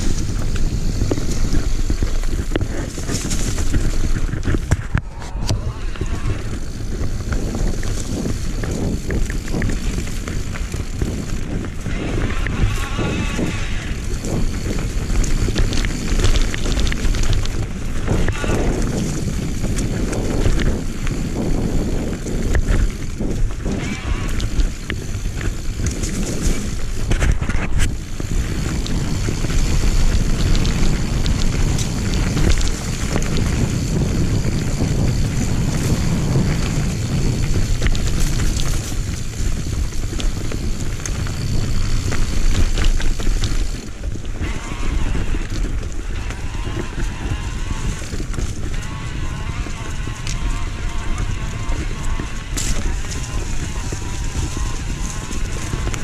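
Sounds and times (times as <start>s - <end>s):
bike clicks and rattles: 0.0s - 56.0s
tyres on dirt and leaves: 0.0s - 56.0s
wind buffeting microphone: 0.0s - 56.0s.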